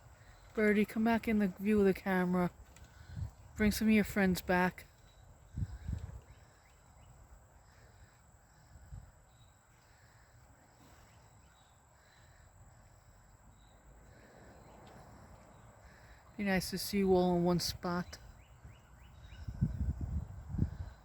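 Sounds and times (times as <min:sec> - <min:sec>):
distant birds calling: 0:00.0 - 0:20.0.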